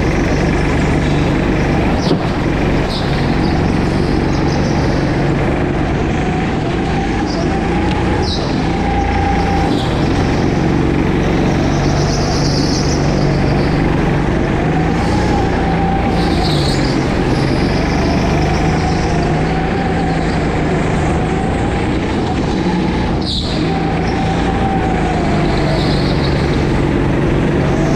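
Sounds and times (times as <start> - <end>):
go-kart engine running hard: 0.0 - 27.9.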